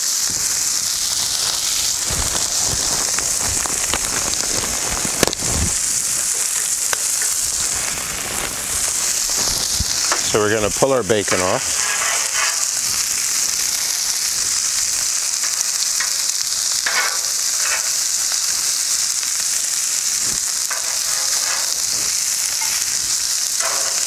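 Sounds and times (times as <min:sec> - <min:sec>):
meat sizzling on griddle: 0:00.0 - 0:24.0.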